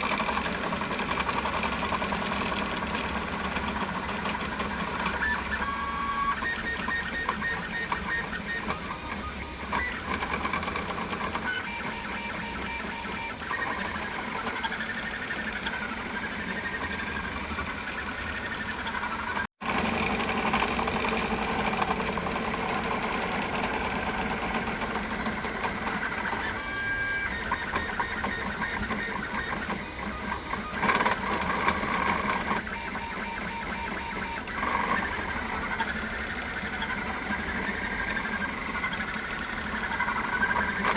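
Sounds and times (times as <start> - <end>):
stepper motors whirring: 0.0 - 40.9.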